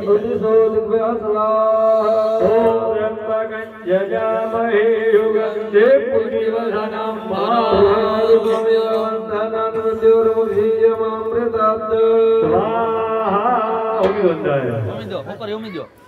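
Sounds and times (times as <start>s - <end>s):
person chanting melodically: 0.0s - 14.4s.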